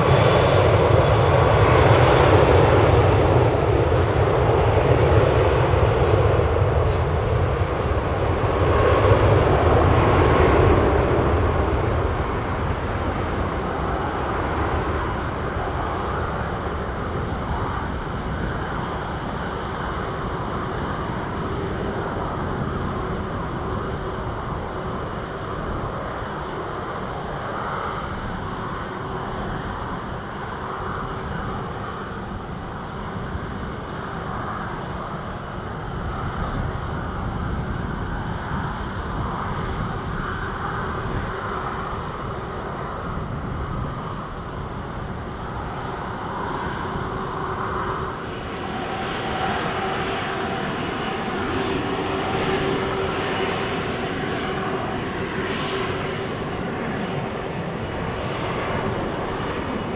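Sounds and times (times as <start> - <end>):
jet engines rushing: 0.0 - 59.9.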